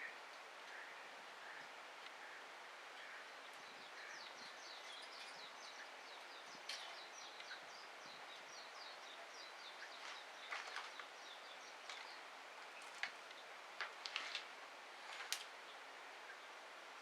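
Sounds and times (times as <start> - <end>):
songbirds twittering: 0.0 - 14.2.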